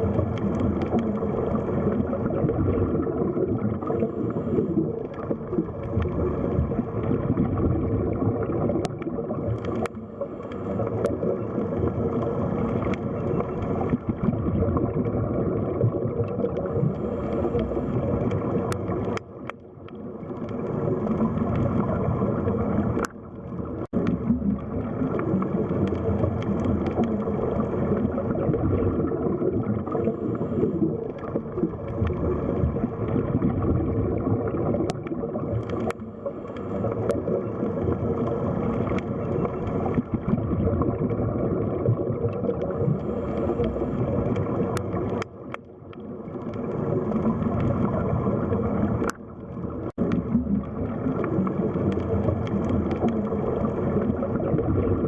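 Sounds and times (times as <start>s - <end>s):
underwater water wash and gurgling: 0.0s - 55.0s.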